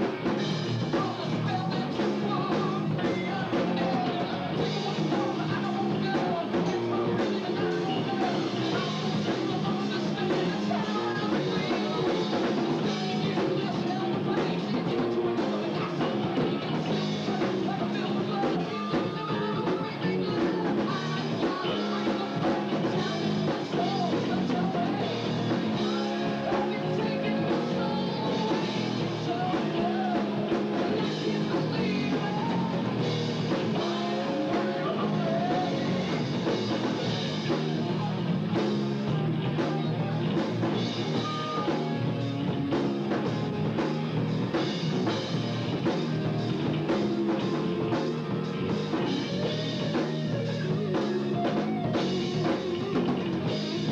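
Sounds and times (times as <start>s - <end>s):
drum kit: 0.0s - 53.9s
electric guitar: 0.0s - 53.9s
lead singer singing: 0.0s - 53.9s.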